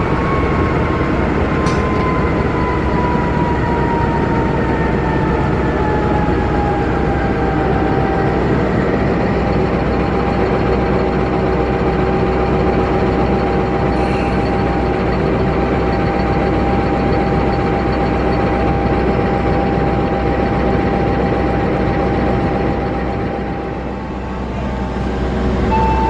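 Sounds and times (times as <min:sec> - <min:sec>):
diesel locomotive engine running: 0:00.0 - 0:26.0
steady whine: 0:00.0 - 0:26.0.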